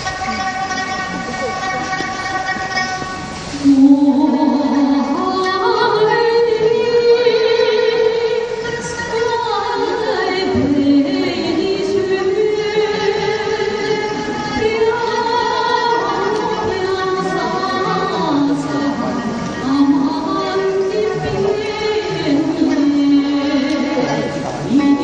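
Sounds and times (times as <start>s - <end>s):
musical accompaniment: 0.0s - 25.0s
woman singing slow melody: 3.6s - 13.8s, 14.5s - 25.0s.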